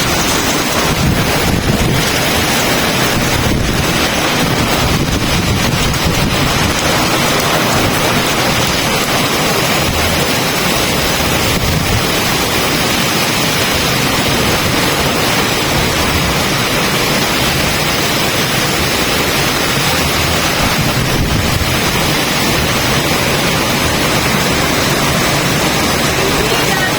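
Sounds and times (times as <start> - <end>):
strong wind buffeting microphone: 0.0 - 26.9.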